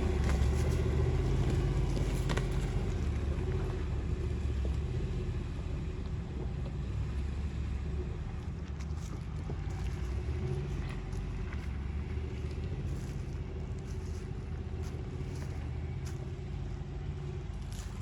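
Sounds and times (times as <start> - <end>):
truck engine low rumble: 0.0 - 18.0.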